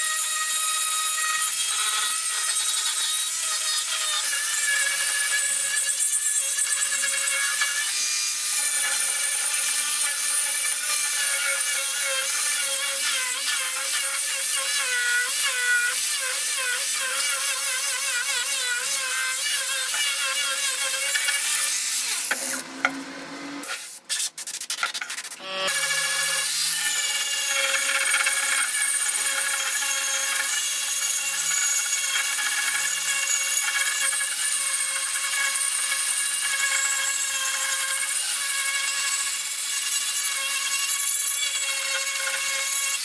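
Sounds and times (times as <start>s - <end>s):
rotary power tool grinding: 1.1s - 24.0s, 24.6s - 43.0s.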